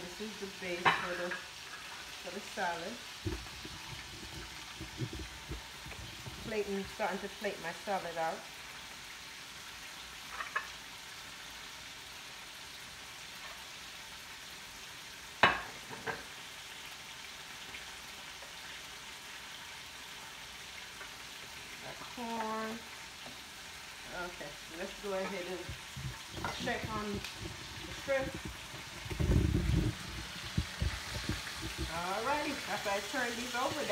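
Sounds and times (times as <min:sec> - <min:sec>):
shrimp sizzling in a pan: 0:00.0 - 0:33.9.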